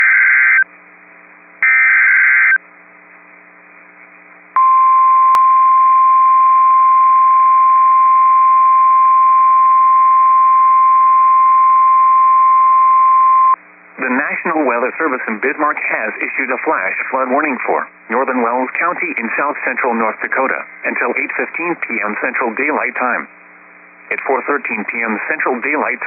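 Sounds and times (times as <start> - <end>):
faint receiver hum: 0.6 - 26.0.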